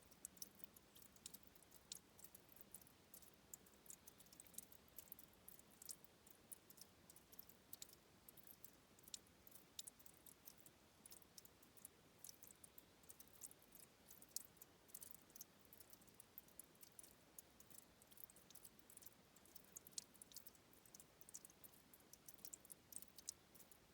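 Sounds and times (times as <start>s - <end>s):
low hiss: 0.0s - 23.9s
spring water trickling and dripping: 0.0s - 23.9s.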